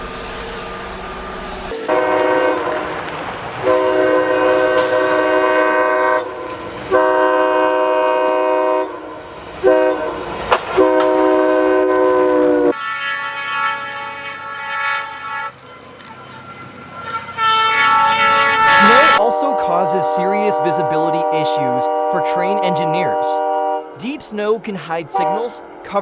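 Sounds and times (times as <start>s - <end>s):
train running: 0.0s - 26.0s
train horn blasts: 1.2s - 3.0s, 3.6s - 15.6s, 17.2s - 24.0s, 25.1s - 25.8s.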